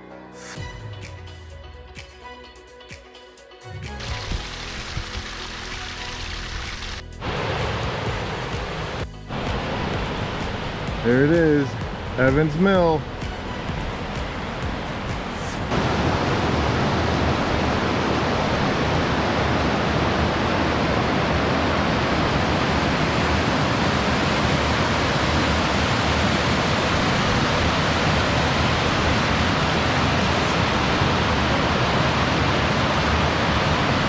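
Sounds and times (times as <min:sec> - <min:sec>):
waterfall roaring: 0:04.0 - 0:12.9, 0:15.5 - 0:34.0.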